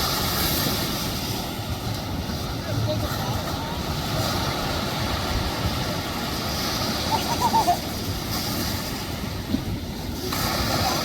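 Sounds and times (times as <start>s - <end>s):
ocean surf: 0.0s - 11.0s
wind buffeting microphone: 0.0s - 11.0s.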